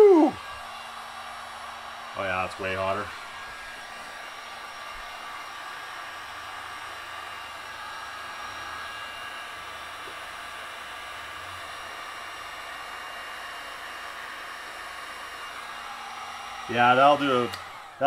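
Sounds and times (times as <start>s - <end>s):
heat gun blowing: 0.0s - 18.0s.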